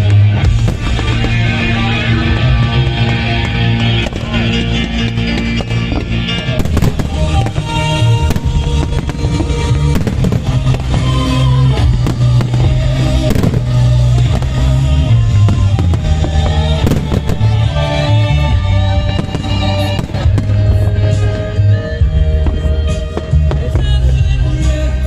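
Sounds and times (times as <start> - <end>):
fireworks bangs and crackles: 0.0 - 25.0
music with bass line: 0.0 - 25.0.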